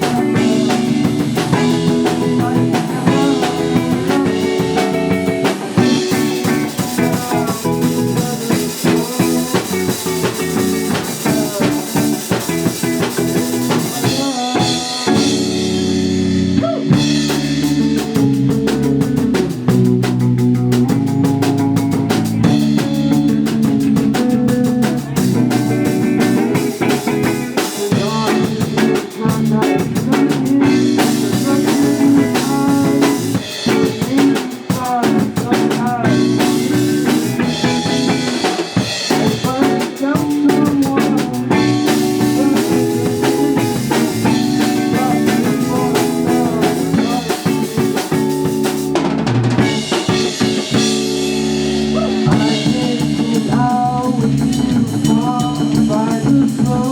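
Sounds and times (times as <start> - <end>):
drum kit: 0.0 - 56.9
guitar: 0.0 - 56.9.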